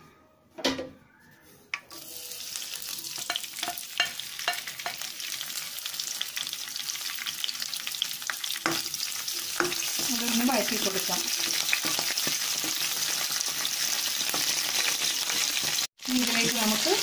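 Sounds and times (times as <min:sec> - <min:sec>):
leaves sizzling in hot oil: 0:01.8 - 0:17.0.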